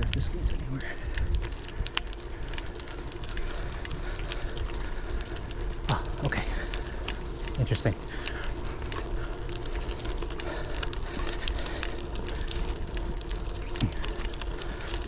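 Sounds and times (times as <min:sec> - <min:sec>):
bike tyres rumbling on rough path: 0:00.0 - 0:15.0
small clicks and ticks: 0:00.0 - 0:15.0.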